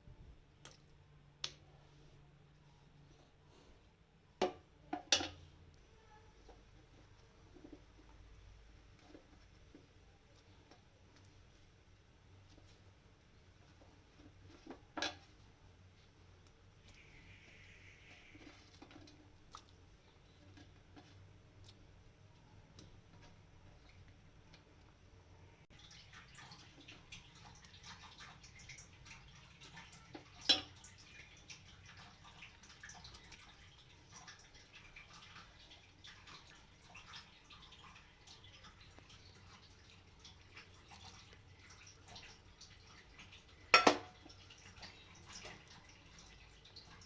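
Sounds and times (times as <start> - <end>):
food bubbling and crackling in a pot: 0.0 - 47.0.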